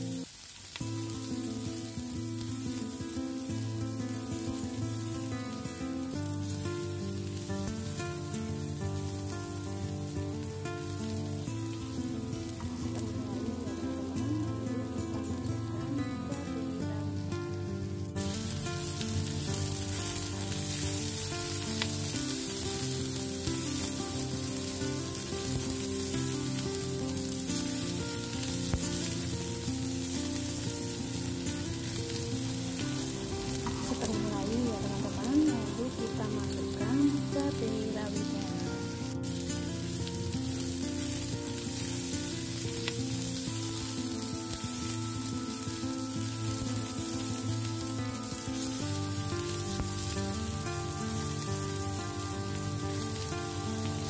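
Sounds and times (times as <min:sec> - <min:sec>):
shallots and garlic sizzling: 0:00.0 - 0:54.0.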